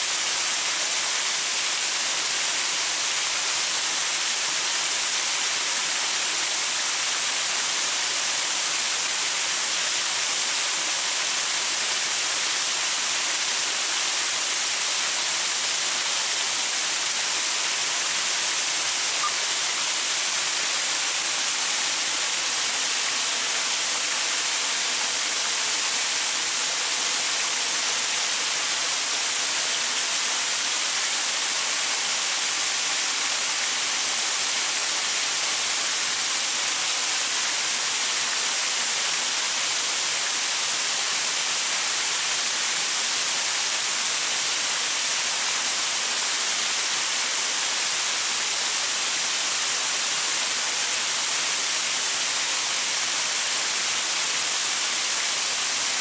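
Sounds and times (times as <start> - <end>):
small waterfall splashing onto rocks: 0.0 - 56.0.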